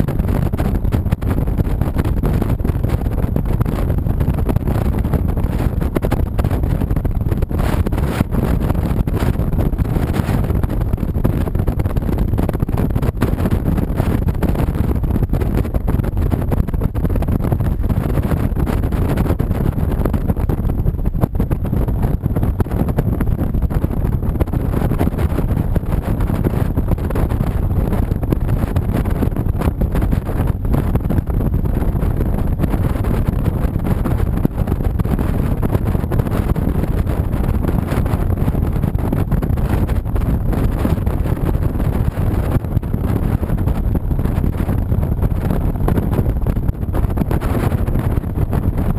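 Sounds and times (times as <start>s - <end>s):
motorcycle road noise: 0.0s - 48.9s
wind rush on microphone: 0.0s - 48.9s.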